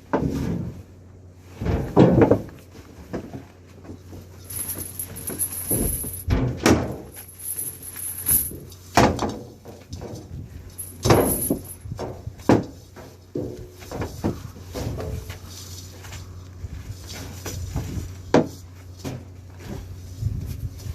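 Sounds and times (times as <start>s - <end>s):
steady low hum: 2.6s - 9.0s, 10.3s - 20.9s.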